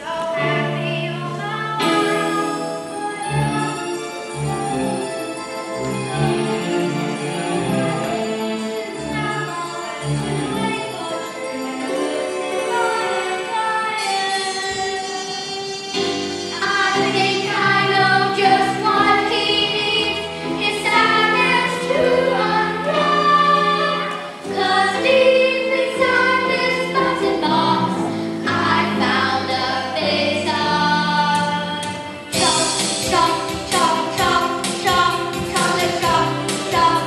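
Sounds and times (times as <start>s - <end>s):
children's choir singing: 0.0s - 37.0s
musical accompaniment: 0.0s - 37.0s.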